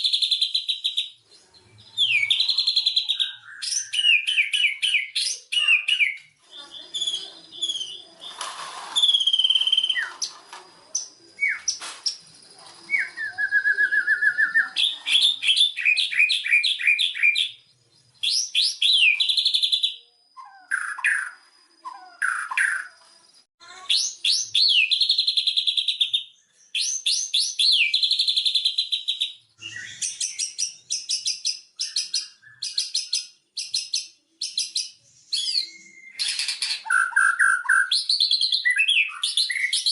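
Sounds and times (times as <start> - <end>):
songbird singing varied song: 0.0 - 8.4, 9.0 - 39.9.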